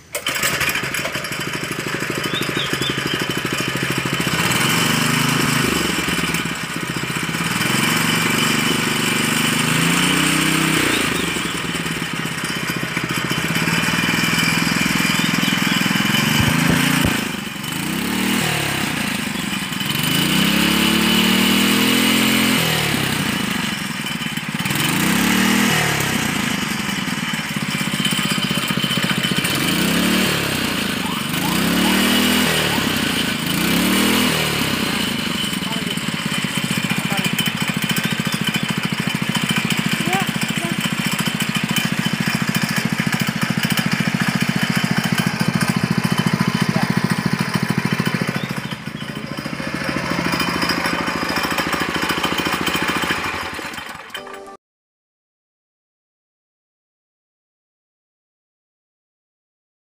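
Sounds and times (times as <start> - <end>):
small engine revving: 0.0 - 54.2.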